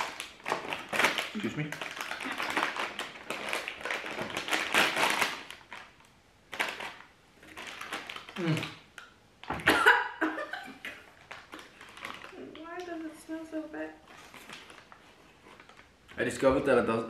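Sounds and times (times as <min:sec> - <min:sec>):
plastic snack bag crinkling: 0:00.0 - 0:09.6, 0:10.8 - 0:13.2, 0:14.0 - 0:16.5.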